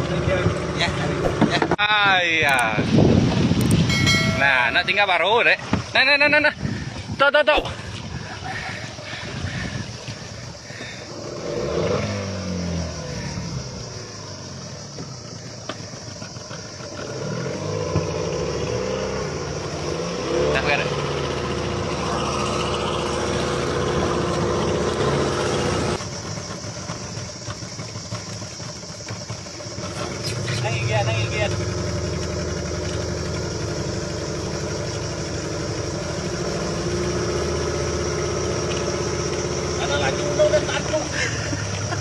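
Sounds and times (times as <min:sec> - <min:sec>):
small boat motor running: 0:00.0 - 0:01.8, 0:02.5 - 0:42.0.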